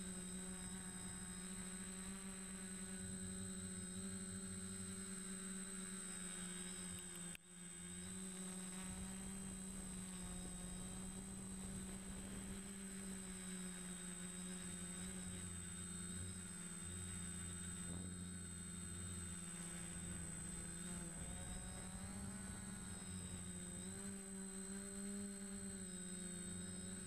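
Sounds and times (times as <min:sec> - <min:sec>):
drone propellers humming: 0:00.0 - 0:27.0
thin high whine: 0:00.0 - 0:27.0.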